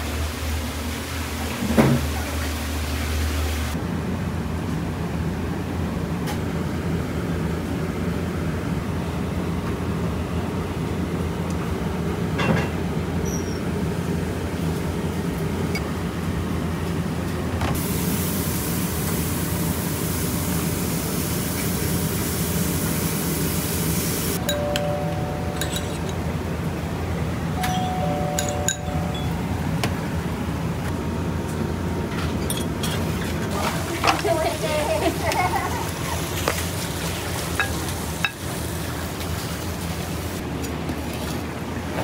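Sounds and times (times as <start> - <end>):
low mechanical rumble: 0.0 - 42.0.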